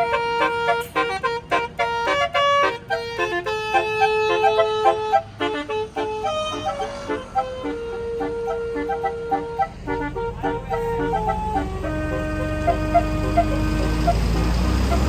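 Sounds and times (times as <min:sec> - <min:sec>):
multi-tone air horn melody: 0:00.0 - 0:15.0.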